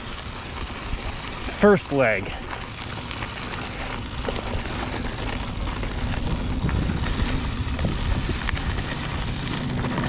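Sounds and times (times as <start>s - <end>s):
bike clicks and rattles: 0.0s - 10.0s
bike tyres on rocky trail: 0.0s - 10.0s.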